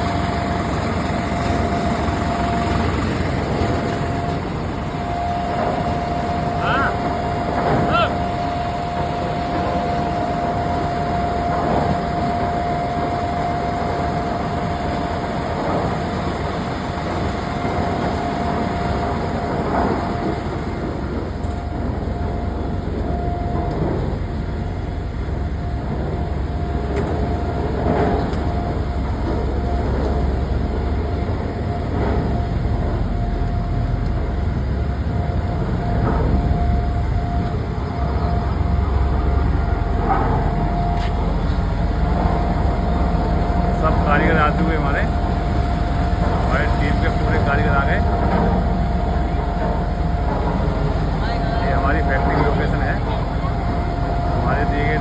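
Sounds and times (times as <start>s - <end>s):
constant machine whine: 0.0s - 55.0s
low engine rumble: 0.0s - 55.0s.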